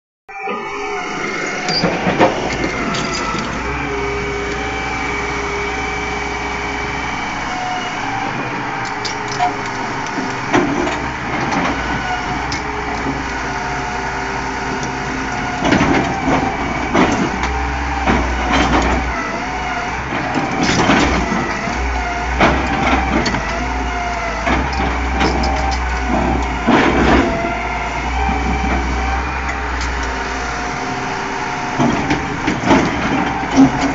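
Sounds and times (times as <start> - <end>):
excavator diesel engine running: 0.3 - 33.9.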